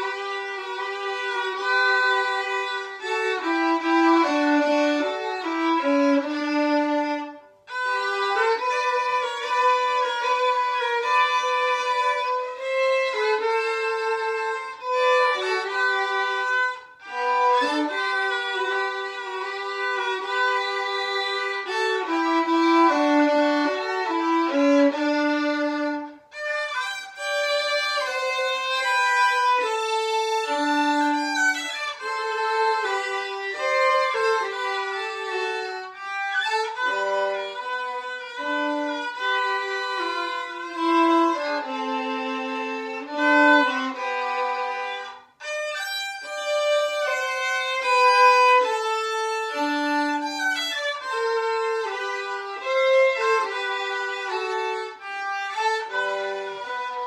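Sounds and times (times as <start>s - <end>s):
violin duet: 0.0s - 57.0s.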